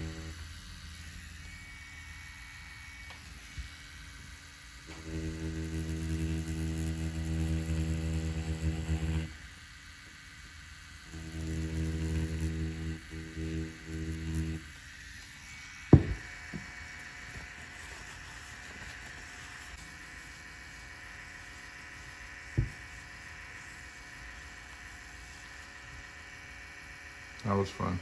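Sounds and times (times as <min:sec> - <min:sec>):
tattoo machine humming: 0:00.0 - 0:28.0.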